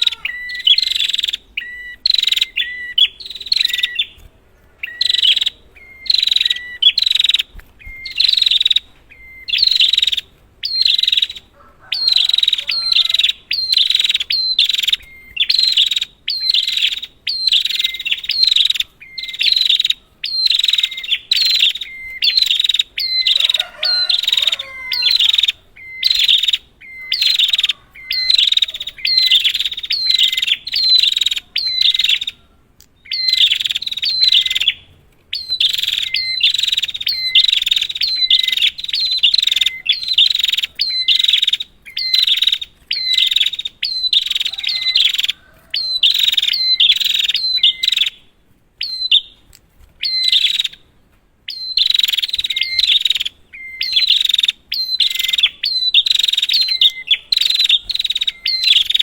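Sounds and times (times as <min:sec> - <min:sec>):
bird chirping sharp repeated notes: 0:00.0 - 0:50.9, 0:51.5 - 0:59.0.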